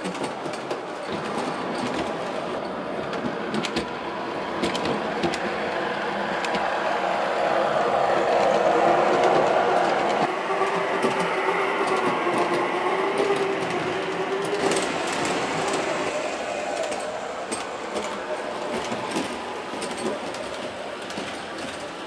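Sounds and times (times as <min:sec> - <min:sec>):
wheels clicking on rails: 0:00.0 - 0:22.0.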